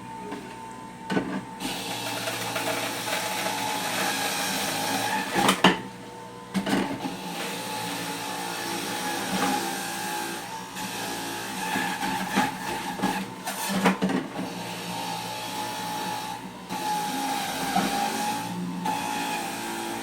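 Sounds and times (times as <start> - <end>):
juicer motor running: 0.0 - 20.0.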